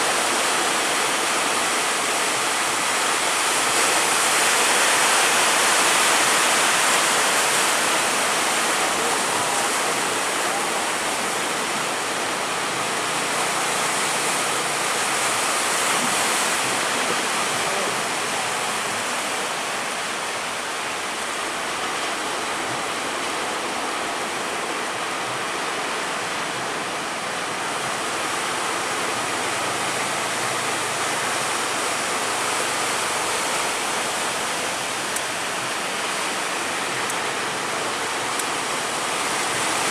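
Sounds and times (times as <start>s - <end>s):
sea waves rushing: 0.0s - 39.9s
wind: 0.0s - 39.9s.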